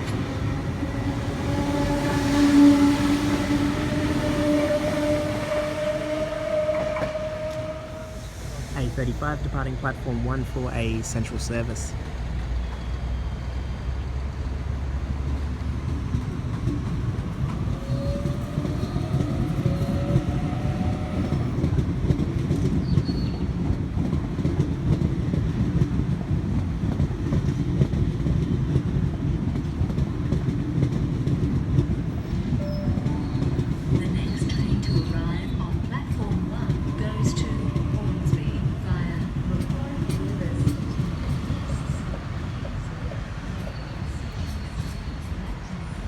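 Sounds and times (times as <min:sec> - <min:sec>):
electric train rumble: 0:00.0 - 0:46.0
rising whine of train: 0:00.0 - 0:46.0.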